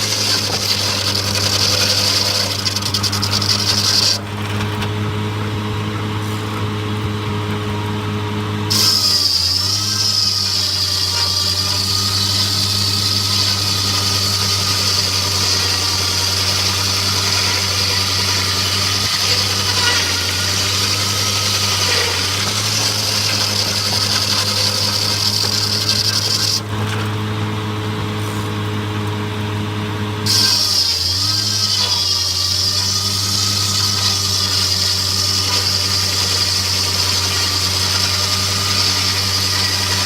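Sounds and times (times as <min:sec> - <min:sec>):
sawmill engine drone: 0:00.0 - 0:40.0.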